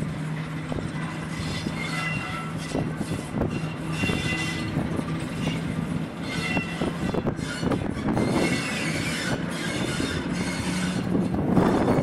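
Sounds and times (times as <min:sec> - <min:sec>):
diesel locomotive engine: 0:00.0 - 0:12.0
wheel squeal: 0:00.9 - 0:12.0.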